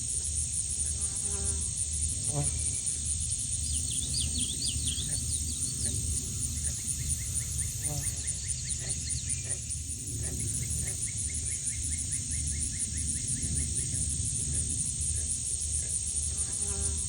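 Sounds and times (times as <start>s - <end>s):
pulsing insect trill: 0.6s - 17.0s.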